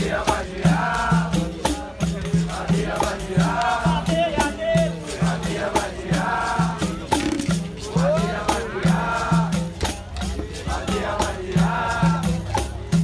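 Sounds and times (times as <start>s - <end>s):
call-and-response singing: 0.0s - 12.8s
hand drum: 0.0s - 13.0s
musical bows and tambourines: 0.0s - 13.0s.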